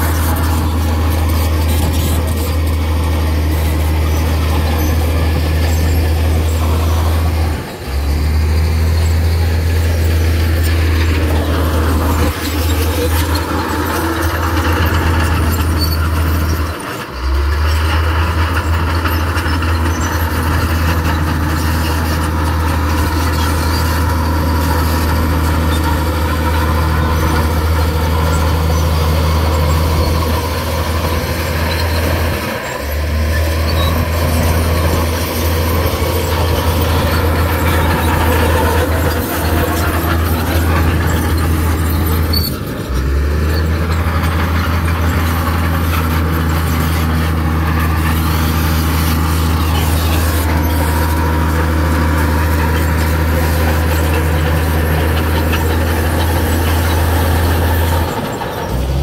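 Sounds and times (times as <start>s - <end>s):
diesel engine running: 0.0s - 59.0s
metallic clatter and squeal: 0.0s - 59.0s.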